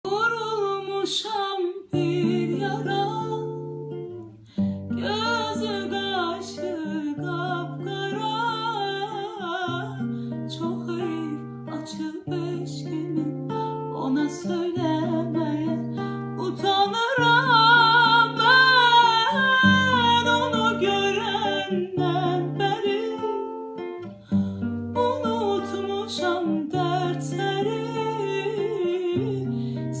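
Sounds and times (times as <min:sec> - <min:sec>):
person singing with vibrato: 0:00.0 - 0:03.7, 0:05.0 - 0:30.0.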